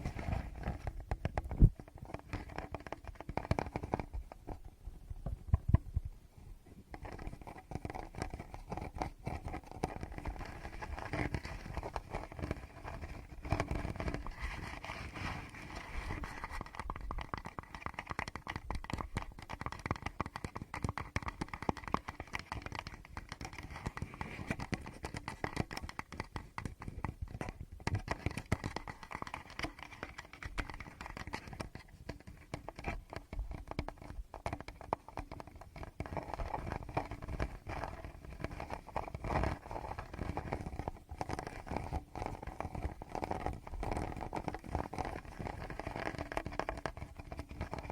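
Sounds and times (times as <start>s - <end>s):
fingers tapping on microphone: 0.0s - 6.1s, 6.9s - 47.9s.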